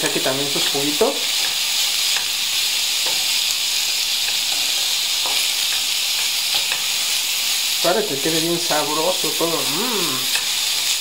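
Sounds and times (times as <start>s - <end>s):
sausage sizzling in a frying pan: 0.0s - 11.0s.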